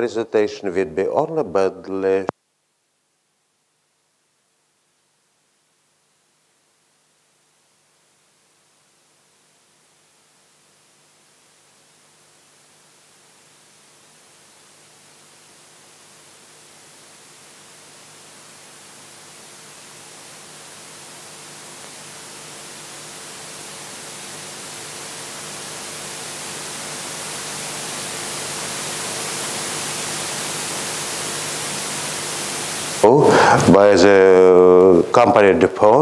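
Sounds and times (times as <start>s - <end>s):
room tone hiss: 0.0s - 36.0s.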